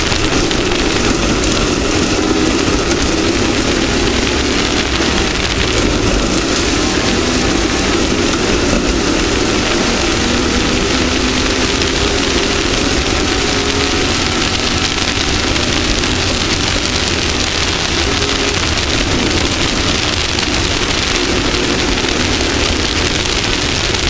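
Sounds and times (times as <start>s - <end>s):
race vehicle engine running: 0.0s - 24.0s
rough ground noise: 0.0s - 24.0s
wind hiss: 0.0s - 24.0s.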